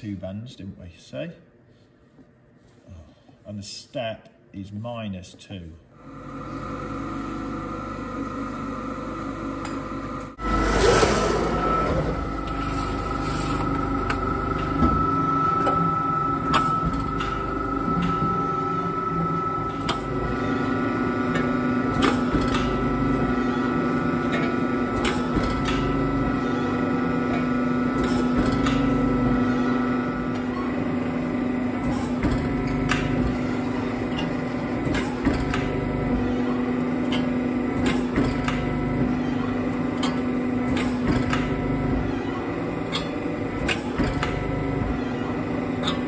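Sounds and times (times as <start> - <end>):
press brake humming and whining: 6.0 - 46.0.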